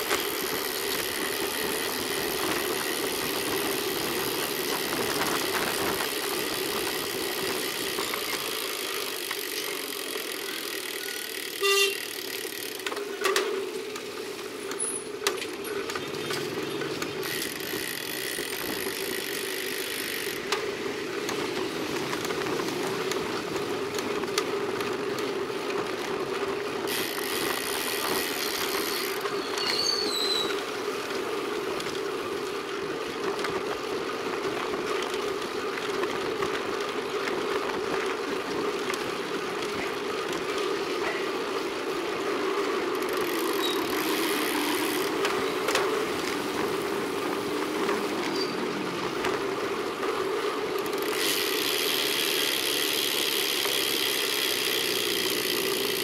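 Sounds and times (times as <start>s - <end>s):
bicycle freewheel ticking: 0.0s - 48.4s, 49.0s - 56.0s
bike tyre road noise: 0.0s - 56.0s.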